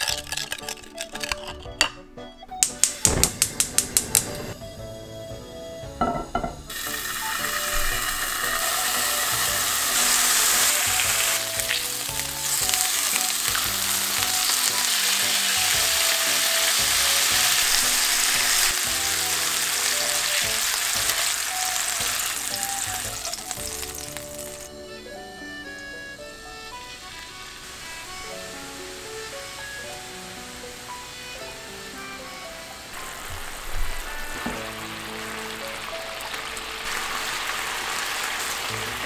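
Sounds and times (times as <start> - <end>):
meat sizzling in frying pan: 6.1 - 24.8, 25.4 - 39.0.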